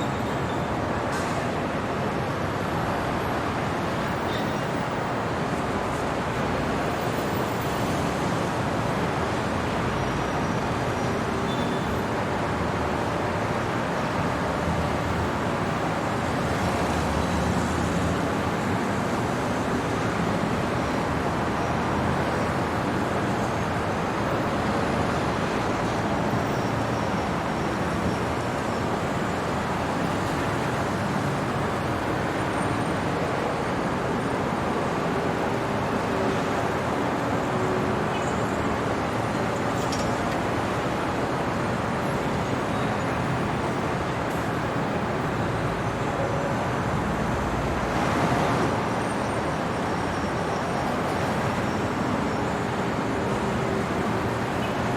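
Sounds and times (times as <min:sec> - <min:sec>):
city traffic passing: 0:00.0 - 0:54.9.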